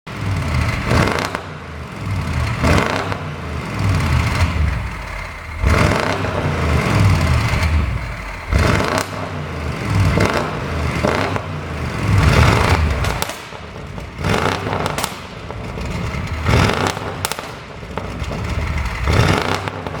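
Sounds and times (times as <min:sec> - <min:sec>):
car engine revving: 0:00.1 - 0:20.0
exhaust pops and crackles: 0:00.1 - 0:20.0.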